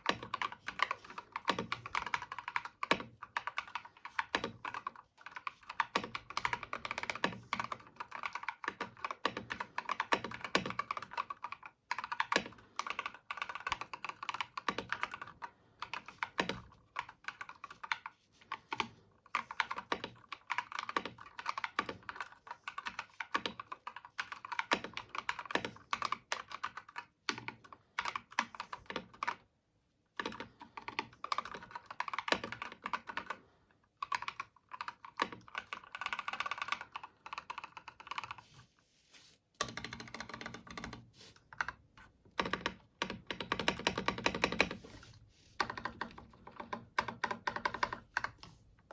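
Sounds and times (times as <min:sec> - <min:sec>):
mechanical keyboard typing: 0:00.0 - 0:29.5, 0:30.2 - 0:33.4, 0:34.0 - 0:38.4, 0:39.6 - 0:44.9, 0:45.6 - 0:48.9.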